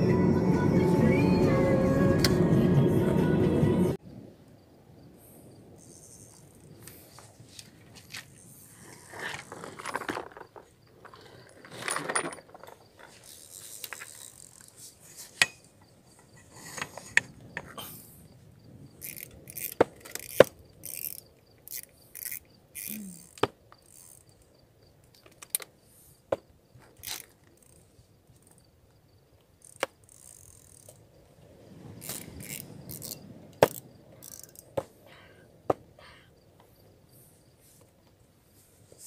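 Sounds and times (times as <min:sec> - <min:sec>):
insects chirping: 0:04.0 - 0:39.0.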